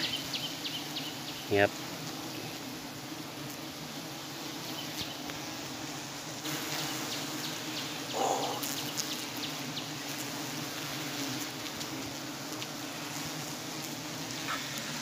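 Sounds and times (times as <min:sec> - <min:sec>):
broad hiss: 0:00.0 - 0:15.0
honeybees buzzing in a swarm: 0:00.0 - 0:15.0.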